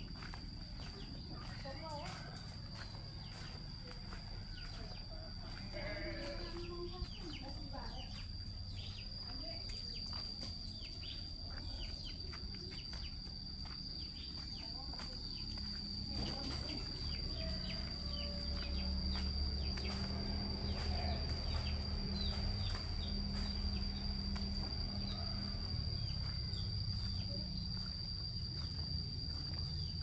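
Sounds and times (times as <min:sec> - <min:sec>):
high-pitched insect trill: 0:00.0 - 0:30.0
low hum: 0:00.0 - 0:30.0
soft footsteps: 0:00.0 - 0:30.0.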